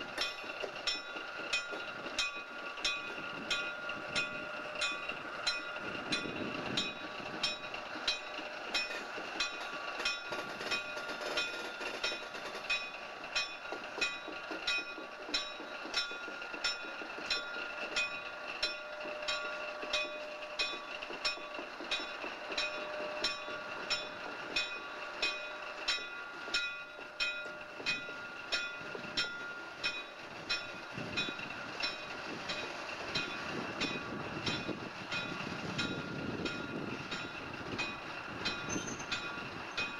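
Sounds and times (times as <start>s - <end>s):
train running hum: 0.0s - 39.9s
train wheels click-clack: 0.0s - 39.9s.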